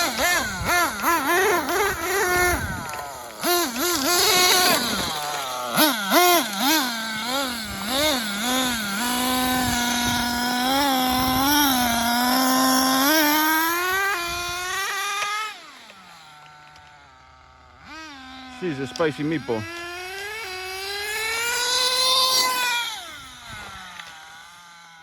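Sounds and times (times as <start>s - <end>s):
rc truck engine revving: 0.0s - 25.0s.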